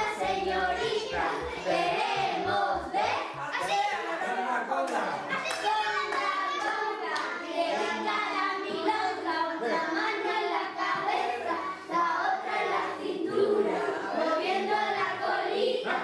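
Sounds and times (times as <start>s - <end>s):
young children singing: 0.0s - 4.4s, 5.2s - 16.0s.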